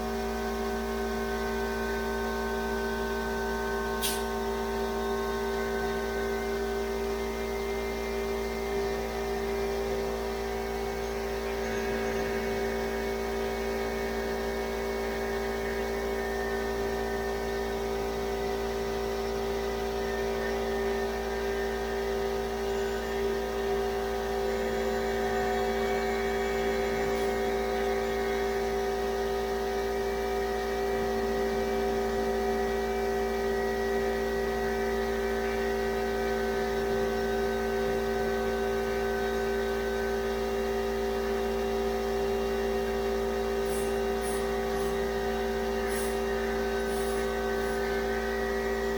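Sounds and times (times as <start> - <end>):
motor hum with a whir: 0.0 - 48.9.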